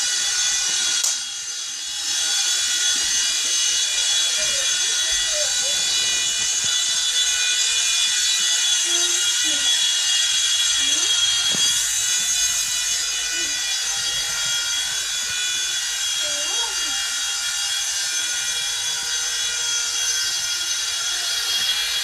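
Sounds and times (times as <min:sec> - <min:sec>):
rc helicopter motor whine: 0:00.0 - 0:22.0.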